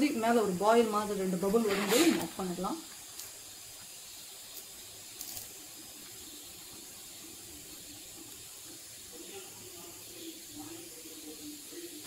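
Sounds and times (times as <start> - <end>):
soup simmering hiss: 0.0 - 12.0.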